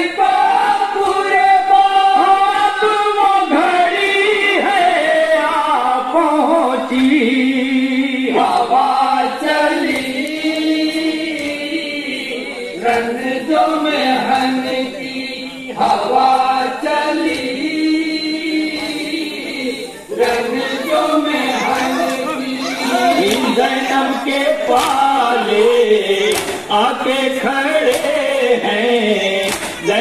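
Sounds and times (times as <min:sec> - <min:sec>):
men singing a lament: 0:00.0 - 0:30.0.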